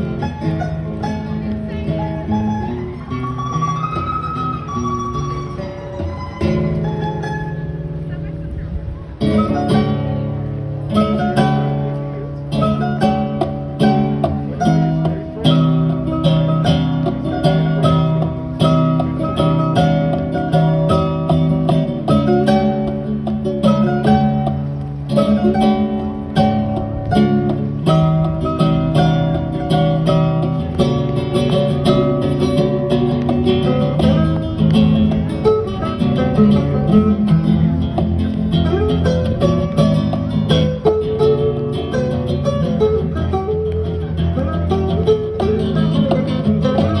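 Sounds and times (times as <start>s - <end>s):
electric guitar: 0.0s - 47.0s
nylon-string acoustic guitar: 0.0s - 47.0s.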